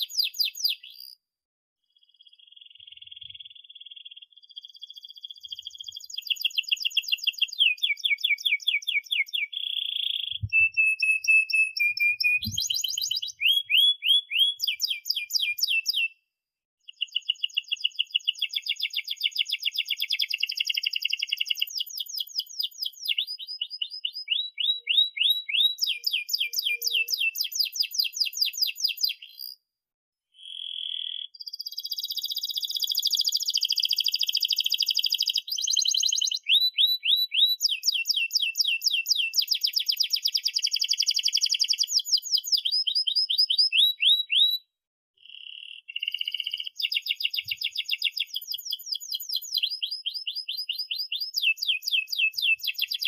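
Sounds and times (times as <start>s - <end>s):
canary singing chirps and trills: 0.0s - 1.2s, 1.8s - 16.2s, 16.8s - 29.6s, 30.3s - 53.0s.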